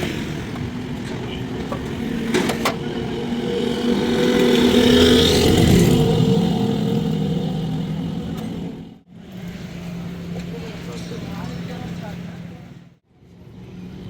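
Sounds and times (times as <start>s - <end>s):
motor humming: 0.0s - 12.6s.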